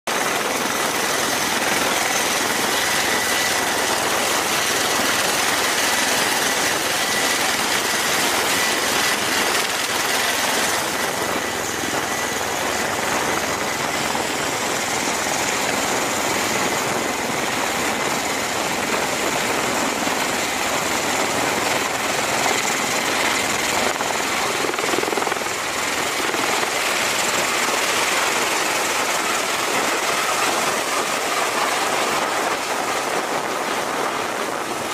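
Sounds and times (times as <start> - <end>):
aircraft loud rushing noise: 0.1 - 34.9.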